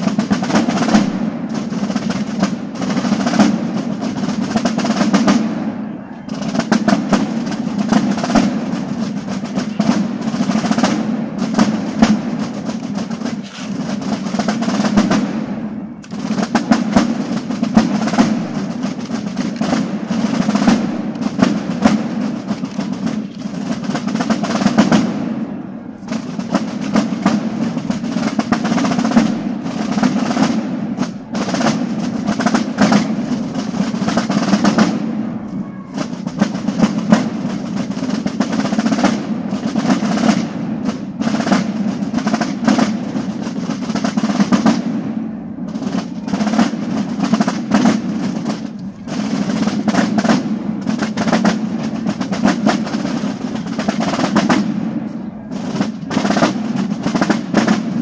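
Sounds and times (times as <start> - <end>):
marching drums playing rolls: 0.0 - 58.0.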